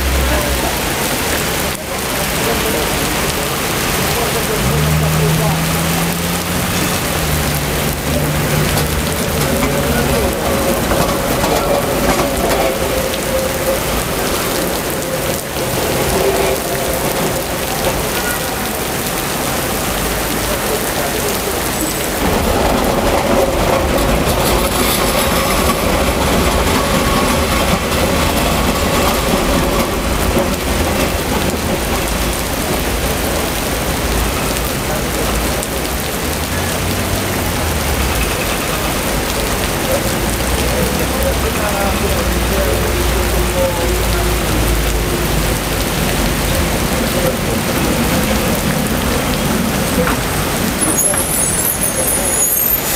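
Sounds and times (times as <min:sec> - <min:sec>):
heavy rain on flooded street: 0:00.0 - 0:52.9
tram passing: 0:00.0 - 0:52.9.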